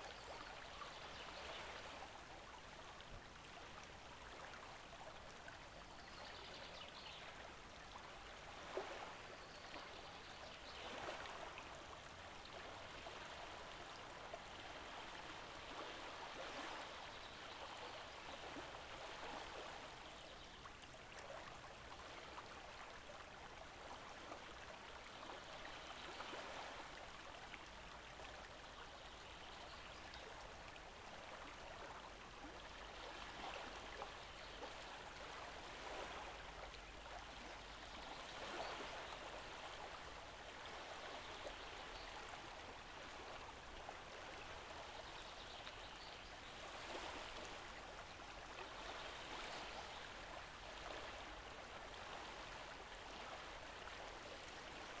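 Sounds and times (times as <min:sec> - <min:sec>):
stream running over sand: 0:00.0 - 0:55.0.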